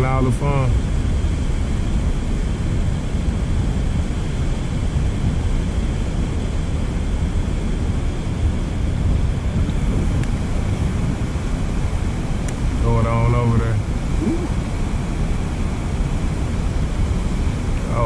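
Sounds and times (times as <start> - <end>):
wind on microphone: 0.7 - 17.9.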